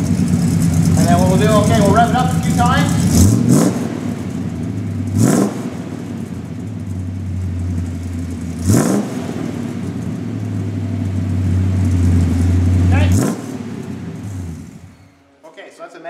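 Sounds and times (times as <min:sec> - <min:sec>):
car engine idling: 0:00.0 - 0:15.4
car engine revving: 0:00.0 - 0:15.4.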